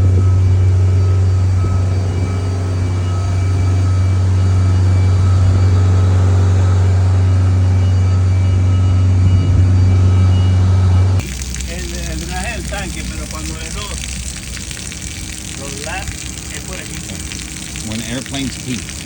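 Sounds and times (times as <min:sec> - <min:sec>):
machinery low drone: 0:00.0 - 0:19.0.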